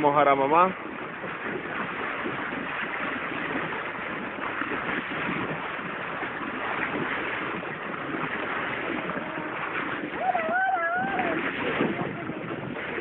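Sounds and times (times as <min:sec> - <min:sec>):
sea water rushing past boat: 0:00.0 - 0:13.0
wind on microphone: 0:00.0 - 0:13.0.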